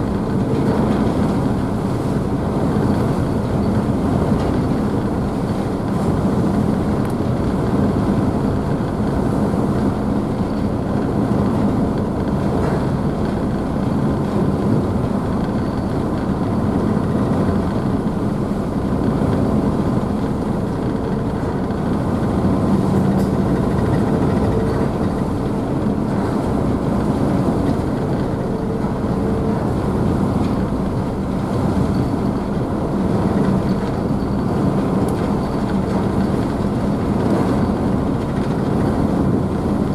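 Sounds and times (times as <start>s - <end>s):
ship engines humming: 0.0s - 39.9s
wake rushing and waves splashing: 0.0s - 39.9s.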